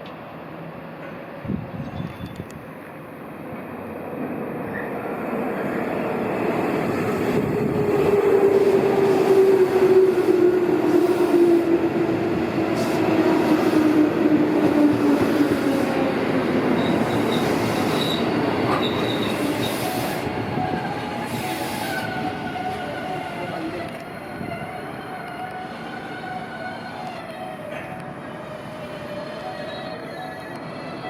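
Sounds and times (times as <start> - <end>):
electric train on rails: 0.0 - 31.0.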